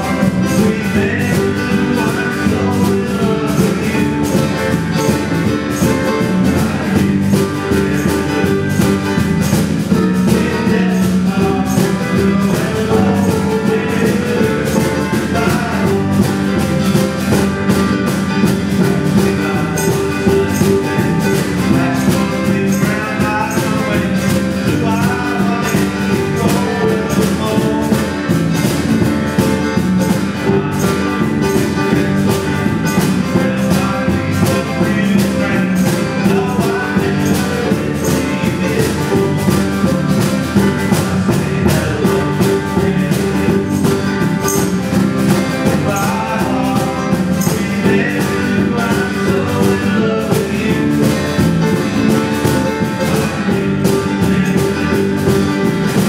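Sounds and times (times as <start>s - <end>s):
acoustic guitar: 0.0s - 56.0s
electric bass: 0.0s - 56.0s
electric guitar: 0.0s - 56.0s
steady beat: 0.0s - 56.0s.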